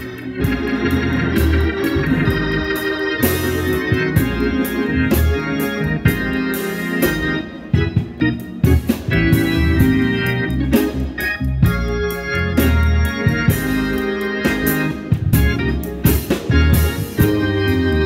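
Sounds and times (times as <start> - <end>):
church band playing organ music: 0.0 - 18.0.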